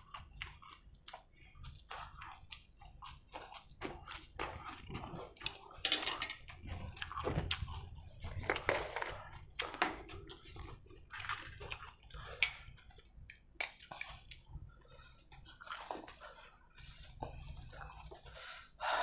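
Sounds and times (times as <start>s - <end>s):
wet squishy mayonnaise: 0.0s - 5.8s, 6.4s - 18.8s.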